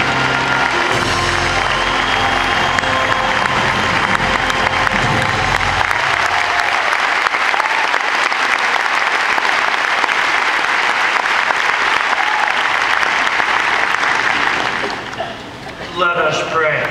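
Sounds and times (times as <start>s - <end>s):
crowd applauding: 0.0s - 15.5s.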